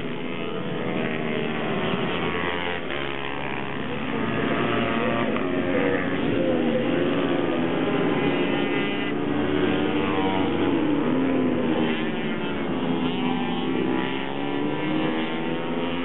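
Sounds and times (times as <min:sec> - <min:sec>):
minibike engines racing: 0:00.0 - 0:16.0.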